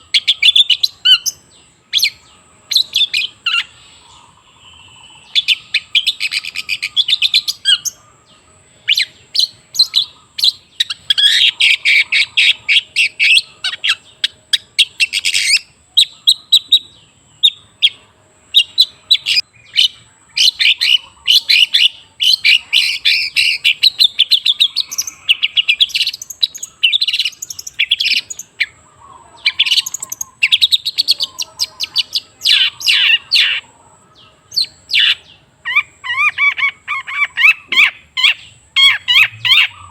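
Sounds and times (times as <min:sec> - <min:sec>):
shrike singing chattering phrases: 0:00.0 - 0:39.9.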